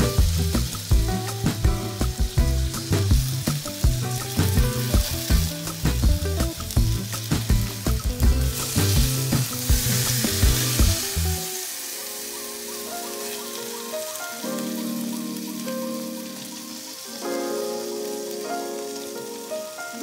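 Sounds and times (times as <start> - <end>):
background music: 0.0 - 20.0
chicken sizzling in frying pan: 0.0 - 20.0.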